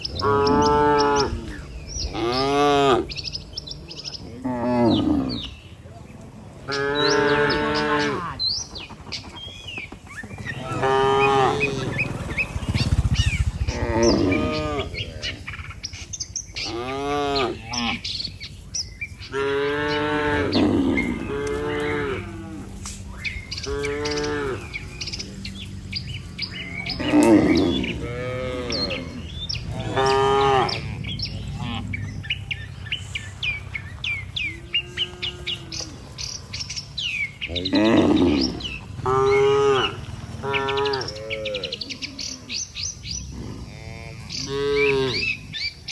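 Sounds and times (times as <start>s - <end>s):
cattle mooing: 0.0s - 5.6s, 6.6s - 8.5s, 10.4s - 15.8s, 16.6s - 18.3s, 19.2s - 45.6s
small birds chirping: 0.0s - 45.9s.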